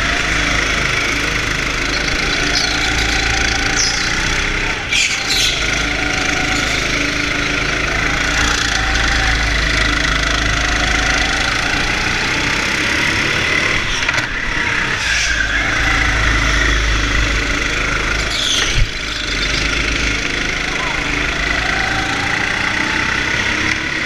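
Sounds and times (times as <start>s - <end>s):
go-kart motor running: 0.0s - 24.0s.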